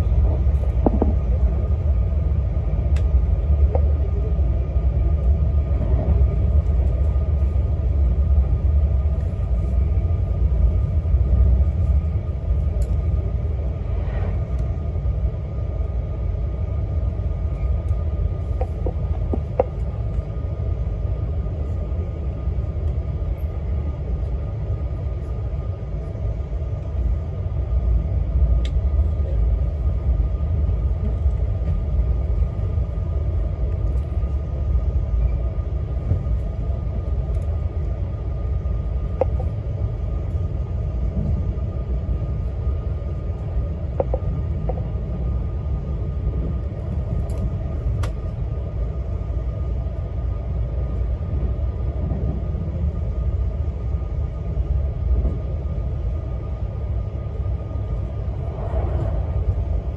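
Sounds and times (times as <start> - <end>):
faint steady whine: 0.0 - 59.9
train wheels rumbling on rail: 0.0 - 59.9.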